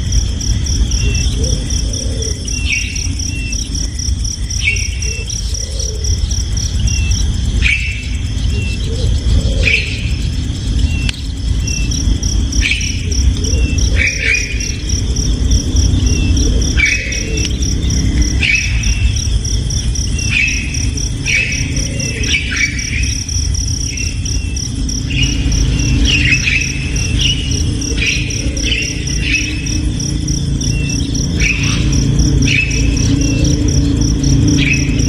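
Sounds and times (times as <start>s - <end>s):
cricket trilling: 0.0s - 35.0s
low rumble: 0.0s - 35.0s
baby birds chirping: 0.8s - 35.0s.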